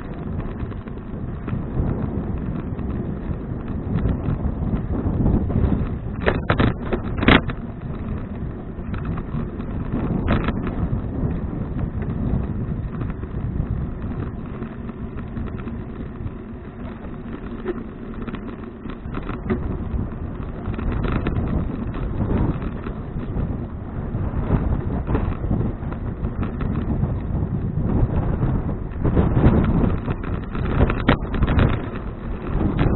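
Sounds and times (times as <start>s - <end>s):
wind on camera microphone: 0.0s - 32.9s.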